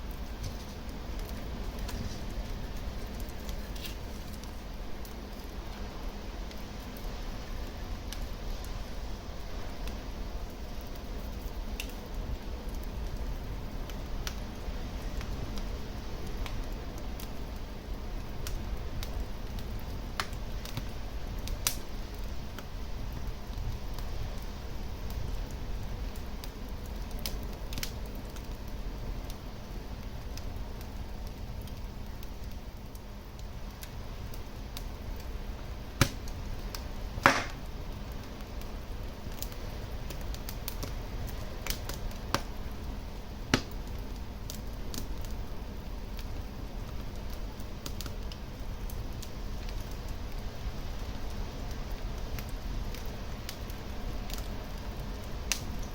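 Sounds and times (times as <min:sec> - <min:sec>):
fire crackling pops: 0:00.0 - 0:55.9
wood fire rumbling: 0:00.0 - 0:55.9.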